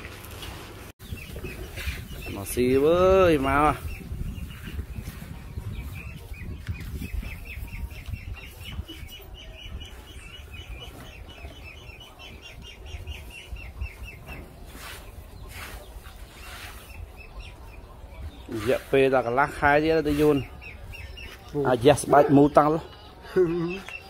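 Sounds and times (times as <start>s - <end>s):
birds chirping: 0.9s - 24.0s.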